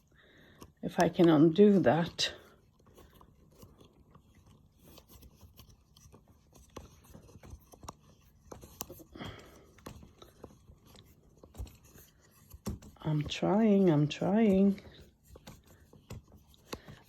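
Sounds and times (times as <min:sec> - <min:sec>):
phone holder clicks and scrapes: 0:02.7 - 0:17.0.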